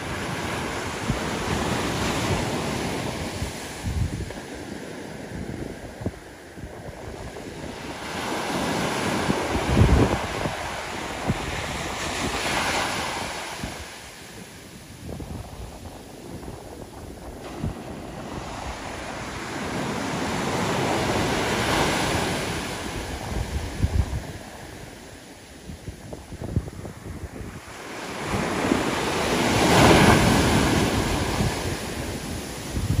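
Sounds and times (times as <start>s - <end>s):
small waves breaking on sand: 0.0s - 33.0s
wave washing up sand: 0.0s - 33.0s
wind buffeting microphone: 0.0s - 33.0s.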